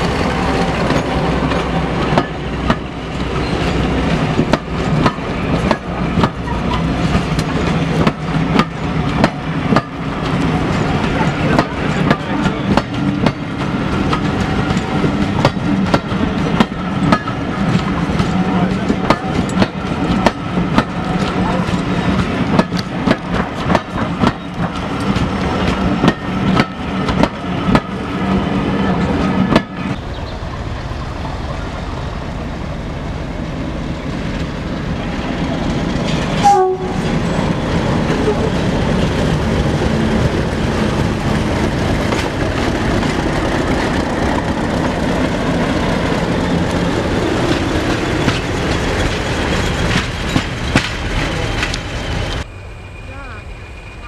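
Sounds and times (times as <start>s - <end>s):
train wheels clicking over rail joints: 0.0s - 30.3s, 33.9s - 52.4s
diesel locomotive engine rumble: 0.0s - 54.0s.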